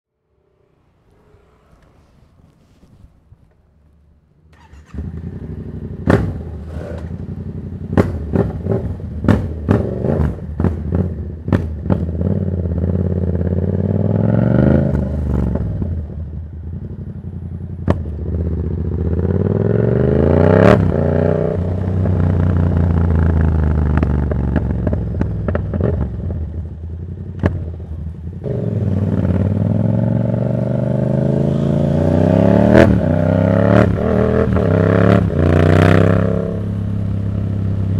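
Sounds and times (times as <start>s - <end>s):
motorcycle engine revving loud: 4.6s - 16.1s, 17.8s - 26.7s, 27.3s - 37.9s.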